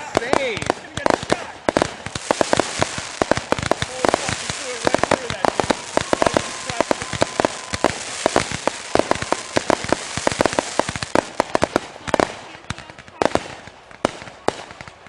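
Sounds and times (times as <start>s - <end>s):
fireworks hiss: 0.0s - 14.7s
fireworks cracking and popping: 0.0s - 15.0s.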